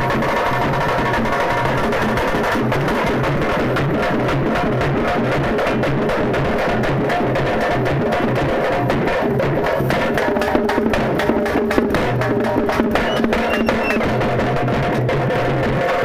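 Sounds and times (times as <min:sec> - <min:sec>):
drums playing loud rhythm: 0:00.0 - 0:16.0.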